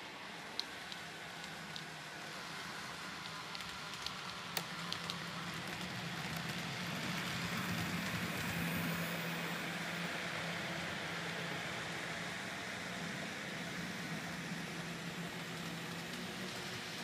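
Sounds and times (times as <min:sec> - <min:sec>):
model train motor hum: 0:00.4 - 0:17.0.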